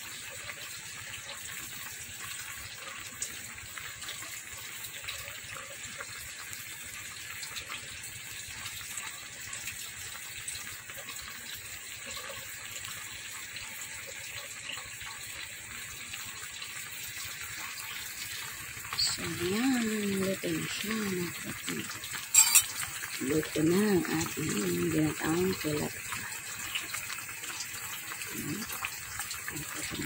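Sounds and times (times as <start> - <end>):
sauce simmering in a pan: 0.0 - 30.0.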